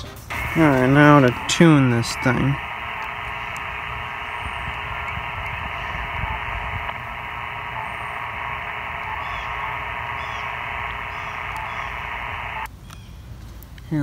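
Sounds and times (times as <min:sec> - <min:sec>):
radio static hissing: 0:00.0 - 0:12.7.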